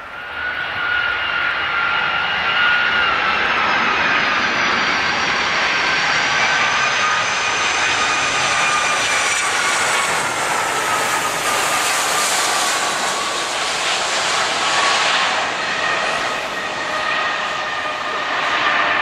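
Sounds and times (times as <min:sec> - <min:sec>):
jet engine roar with whine: 0:00.0 - 0:19.0.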